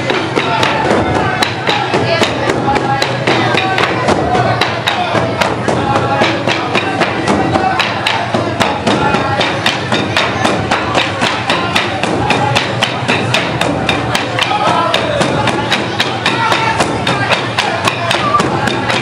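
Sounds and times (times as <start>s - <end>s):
voices: 0.0s - 19.0s
wooden drums beating quick rhythm: 0.0s - 19.0s.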